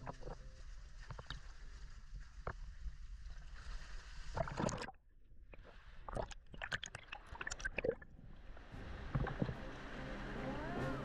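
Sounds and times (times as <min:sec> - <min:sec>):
bubbly gurgling and clicks: 0:00.0 - 0:03.6, 0:04.3 - 0:09.6
water sloshing and splashing: 0:00.0 - 0:11.0.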